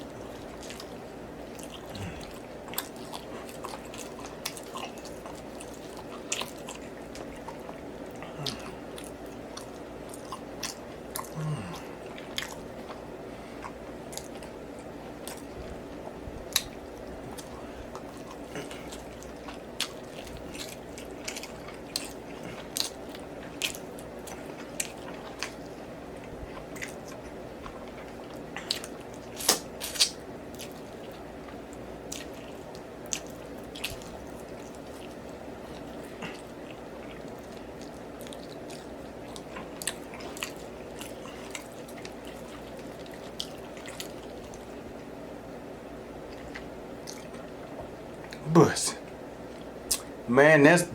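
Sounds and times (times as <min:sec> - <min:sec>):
wet chewing and lip smacking: 0:00.0 - 0:45.2, 0:46.1 - 0:48.4, 0:49.0 - 0:50.2
steady low hum: 0:00.0 - 0:50.9.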